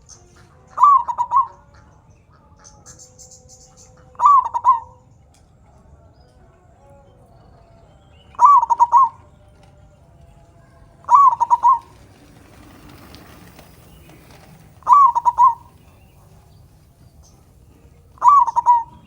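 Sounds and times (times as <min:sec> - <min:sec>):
dove cooing: 0:00.0 - 0:05.1, 0:07.4 - 0:19.0.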